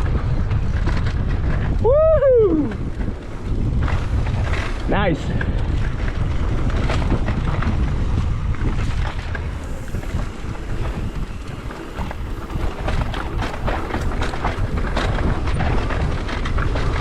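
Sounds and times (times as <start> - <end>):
bike rattling: 0.0 - 17.0
tyres rolling on dirt trail: 0.0 - 17.0
wind buffeting microphone: 0.0 - 17.0.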